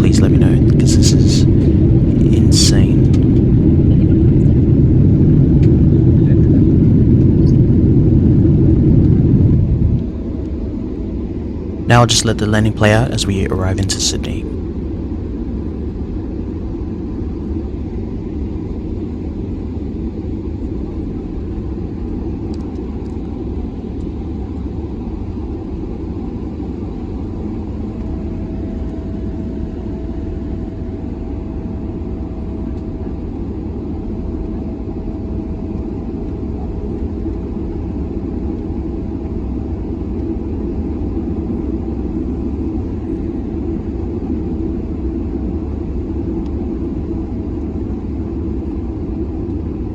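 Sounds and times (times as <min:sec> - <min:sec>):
aircraft cabin engine rumble: 0:00.0 - 0:49.9
faint steady whine: 0:00.0 - 0:49.9.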